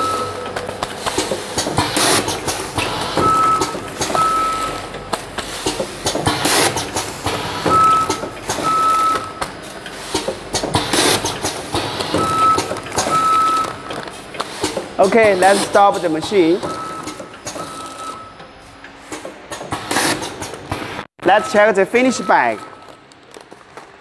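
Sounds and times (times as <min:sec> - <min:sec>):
packing machine cycling: 0:00.0 - 0:24.0.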